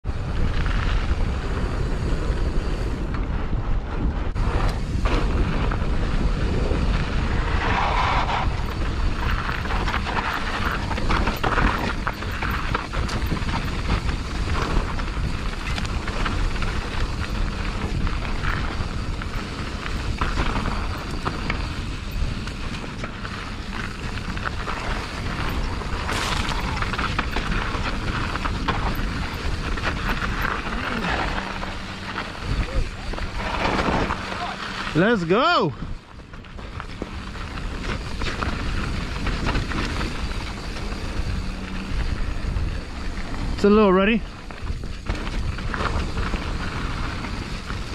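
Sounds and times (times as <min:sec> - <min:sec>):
bike tyres on dirt and gravel: 0:00.0 - 0:47.9
wind rumble on microphone: 0:00.0 - 0:47.9
bike clicks and rattles: 0:00.1 - 0:47.9.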